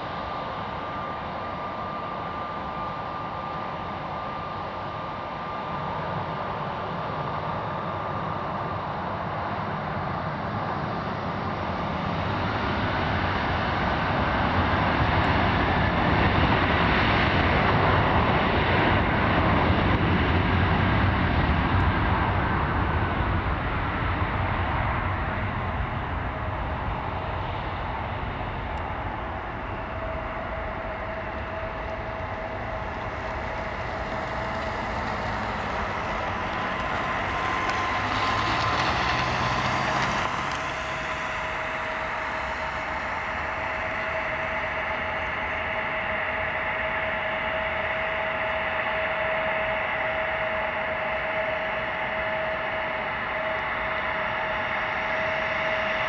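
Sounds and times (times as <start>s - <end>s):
jet engine roar with fan whine: 0.0s - 56.0s.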